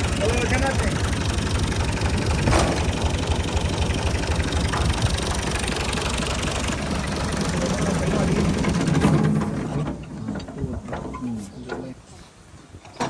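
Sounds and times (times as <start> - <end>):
tractor diesel engine idling: 0.0 - 11.7.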